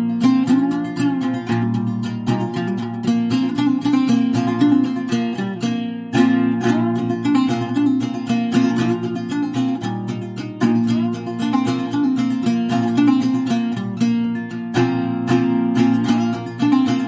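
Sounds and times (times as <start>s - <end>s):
plucked string music: 0.0s - 17.0s.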